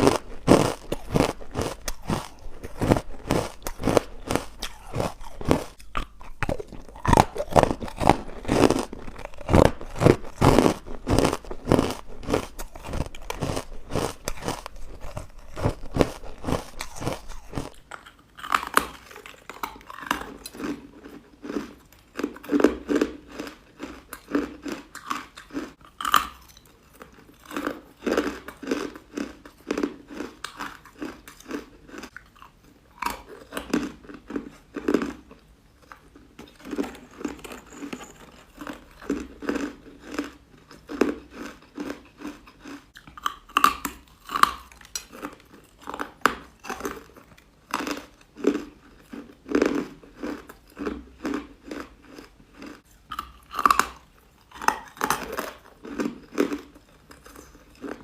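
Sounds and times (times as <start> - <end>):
crunching and chewing: 0.0 - 58.0.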